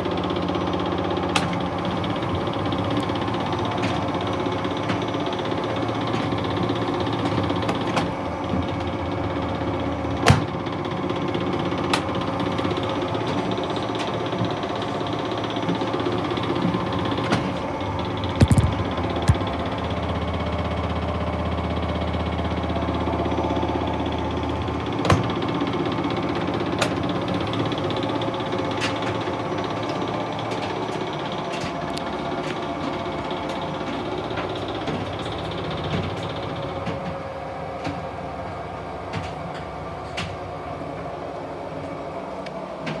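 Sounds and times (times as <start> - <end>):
tumble dryer humming: 0.0 - 43.0.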